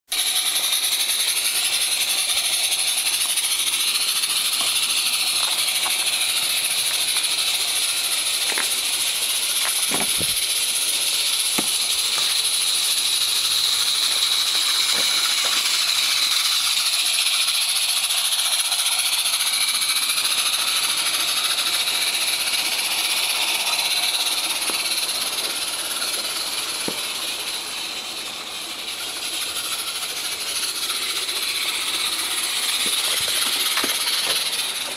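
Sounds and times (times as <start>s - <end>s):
steam hissing: 0.1s - 34.9s.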